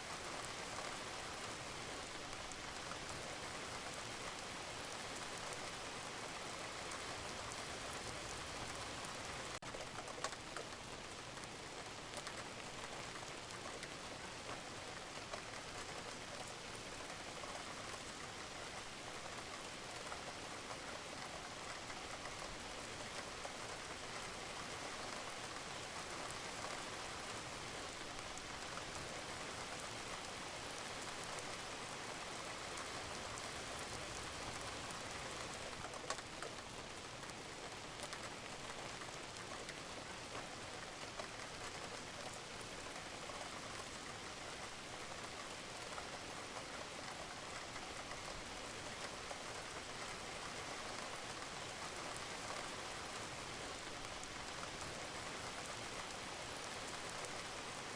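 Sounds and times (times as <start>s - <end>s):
rain falling on a roof: 0.0s - 57.9s.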